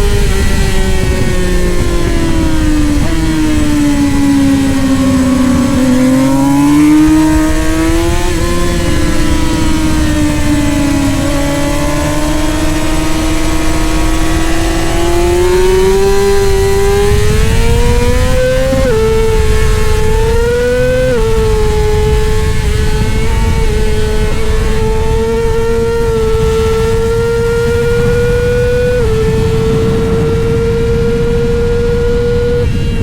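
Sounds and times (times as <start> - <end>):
motorcycle engine racing: 0.0 - 33.0.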